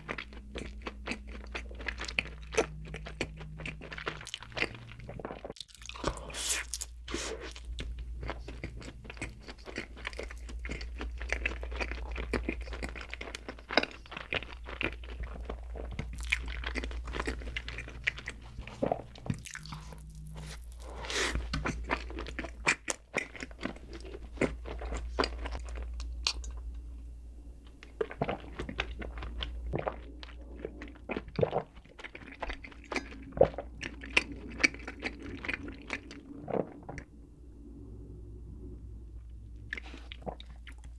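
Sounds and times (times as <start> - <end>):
chewing with crisp crunching bites: 0.0 - 26.8, 27.9 - 37.1
faint low hum: 0.0 - 40.9.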